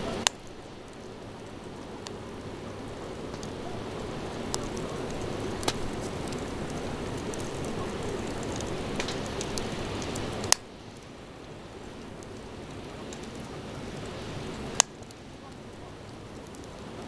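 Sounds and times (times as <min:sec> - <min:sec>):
campfire hissing: 0:00.0 - 0:17.0
fire crackling and popping: 0:00.0 - 0:17.0.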